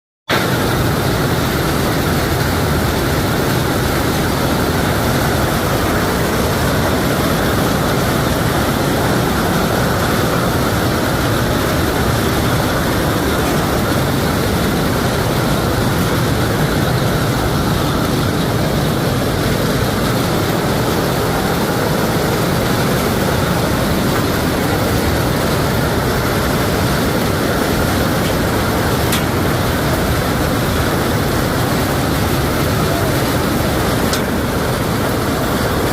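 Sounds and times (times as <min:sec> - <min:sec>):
heavy hail patter: 0:00.3 - 0:35.9.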